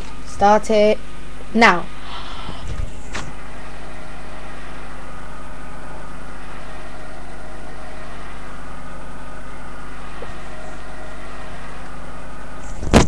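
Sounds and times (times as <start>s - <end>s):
steady hiss and hum drone: 0.0s - 13.0s.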